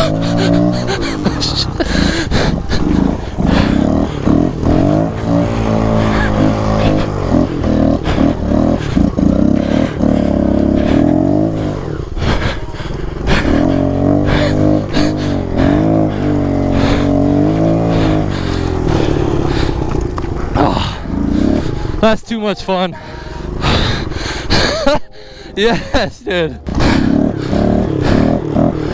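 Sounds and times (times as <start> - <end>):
dirt bike engine revving hard: 0.0 - 28.9.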